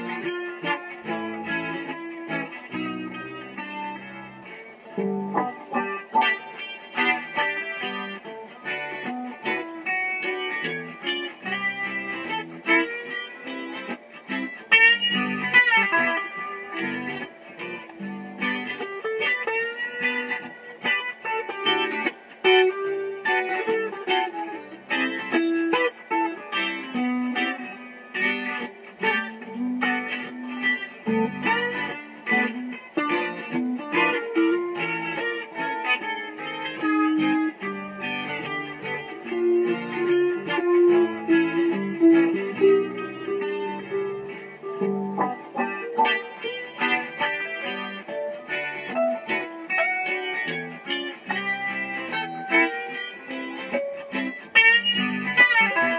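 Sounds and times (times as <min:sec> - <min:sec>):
electric guitar playing: 0:00.0 - 0:55.9.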